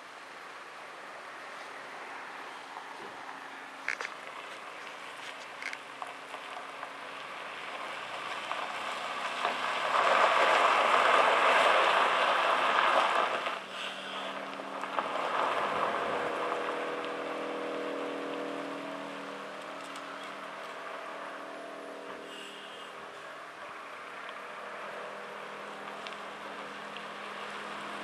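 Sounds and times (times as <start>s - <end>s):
truck diesel engine humming: 0.0s - 28.0s.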